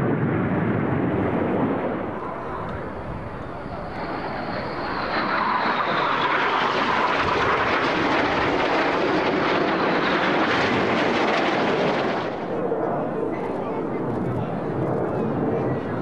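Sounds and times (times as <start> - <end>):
jet roar with high whine: 0.0 - 16.0.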